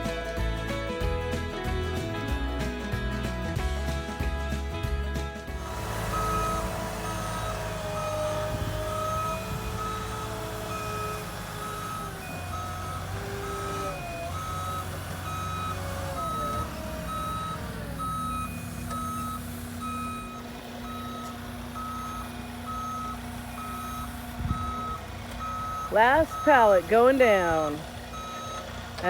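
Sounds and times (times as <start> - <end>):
truck engine humming: 0.0 - 29.0
truck backup alarm beeping: 5.6 - 29.0.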